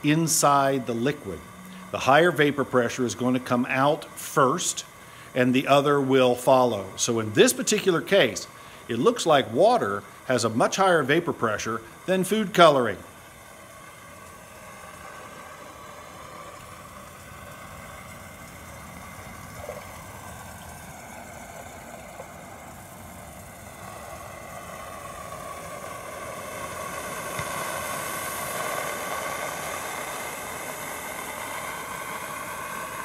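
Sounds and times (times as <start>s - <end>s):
water boiling in flask: 0.0s - 33.0s.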